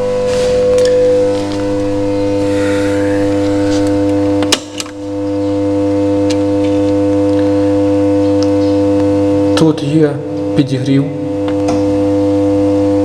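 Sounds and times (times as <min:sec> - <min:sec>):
loud electrical hum: 0:00.0 - 0:13.0.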